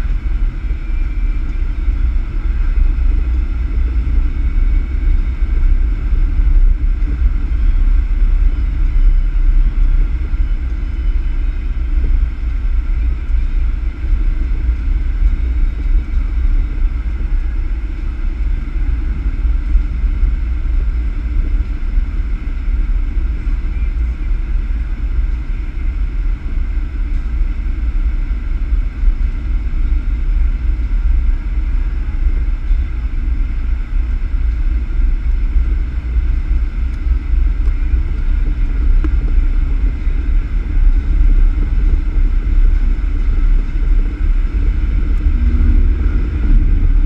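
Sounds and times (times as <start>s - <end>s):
vehicle driving on road: 0.0s - 47.0s.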